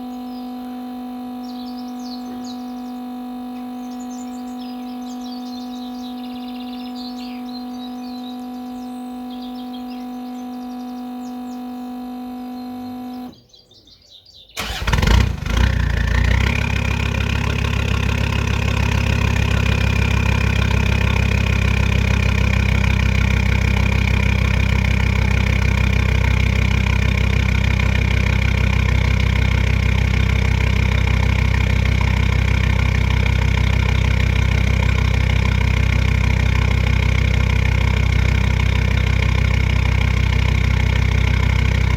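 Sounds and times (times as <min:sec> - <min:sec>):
diesel engine cold start and idle: 0:00.0 - 0:13.4, 0:14.6 - 0:41.9
high steady whine: 0:00.0 - 0:13.4, 0:15.8 - 0:41.9.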